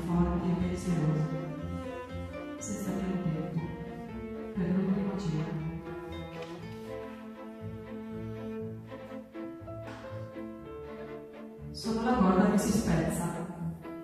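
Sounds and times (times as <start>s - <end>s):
slow low cello music: 0.0s - 14.0s.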